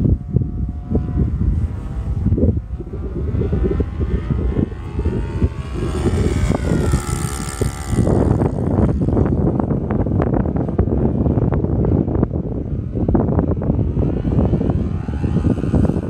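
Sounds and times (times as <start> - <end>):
propeller plane engine droning: 0.0 - 16.0
wind buffeting on microphone: 0.0 - 16.0.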